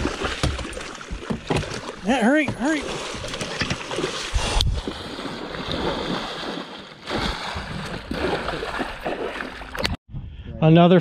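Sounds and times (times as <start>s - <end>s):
water splashing against a boat: 0.0s - 10.0s.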